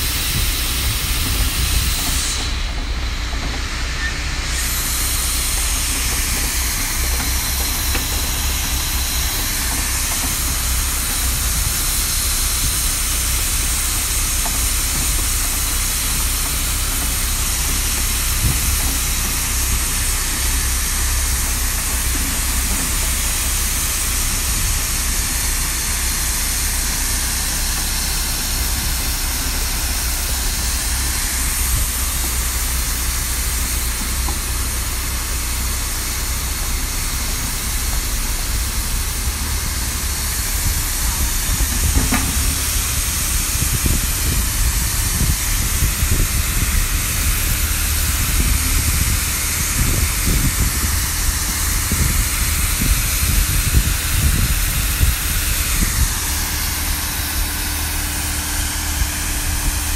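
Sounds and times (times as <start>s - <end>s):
engine rumbling: 0.0s - 59.9s
loud steady hiss: 0.0s - 59.9s.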